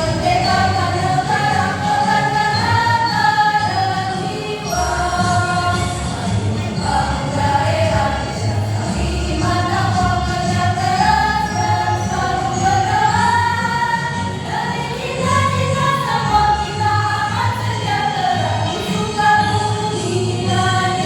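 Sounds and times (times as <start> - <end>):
choir singing a march: 0.0 - 21.0.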